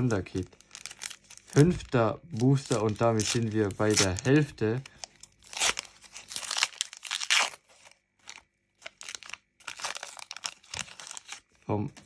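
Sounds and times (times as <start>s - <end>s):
wrapper tearing and crinkling: 0.0s - 11.6s.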